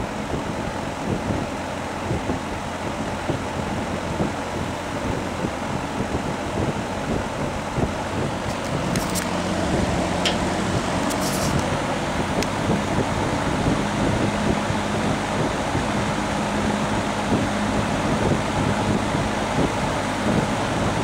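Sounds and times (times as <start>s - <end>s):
fan air rushing: 0.0s - 21.0s.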